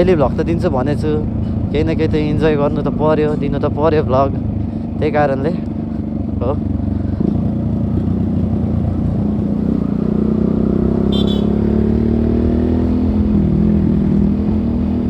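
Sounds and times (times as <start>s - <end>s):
motorcycle engine running: 0.0s - 12.1s.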